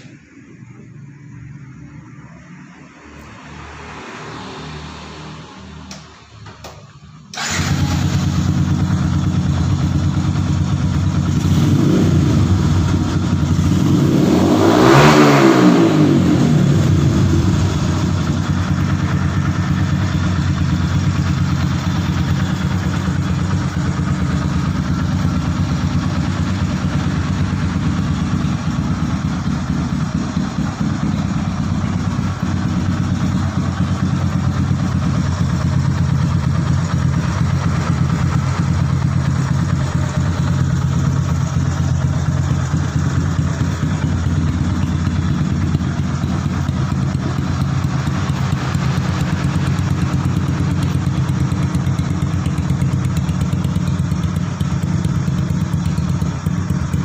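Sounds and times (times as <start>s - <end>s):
motorcycle engine starting and revving: 3.2s - 57.0s.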